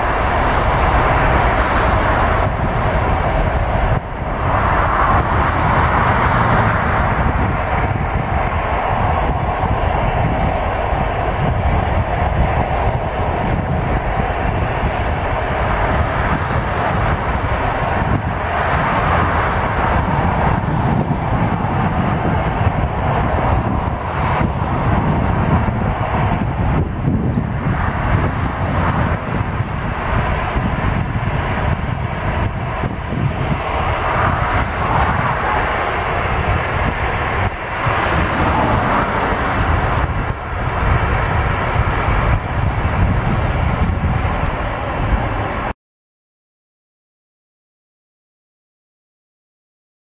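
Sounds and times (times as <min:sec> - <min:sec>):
jet engines roaring: 0:00.0 - 0:45.7.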